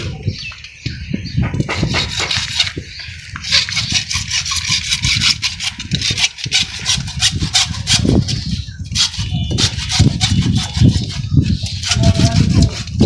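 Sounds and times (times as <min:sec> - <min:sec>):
hand saw cutting plastic pipe: 0:01.6 - 0:02.8, 0:03.4 - 0:13.0.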